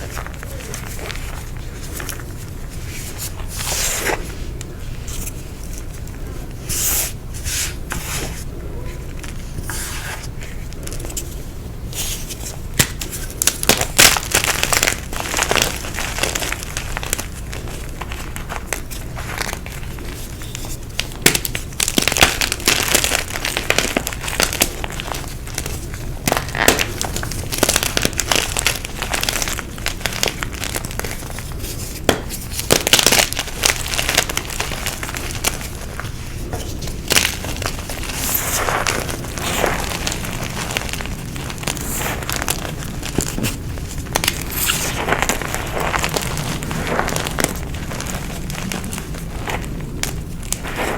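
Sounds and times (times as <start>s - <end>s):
chalk blocks crunching and crackling: 0.0s - 8.5s, 9.1s - 50.9s.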